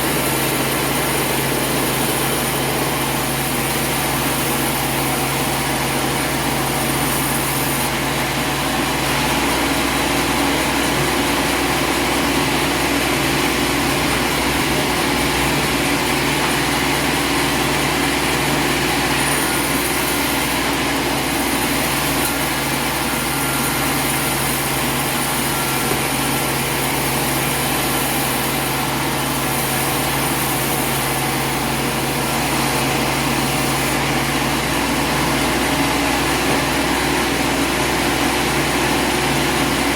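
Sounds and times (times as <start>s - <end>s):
steady mechanical drone: 0.0s - 39.9s.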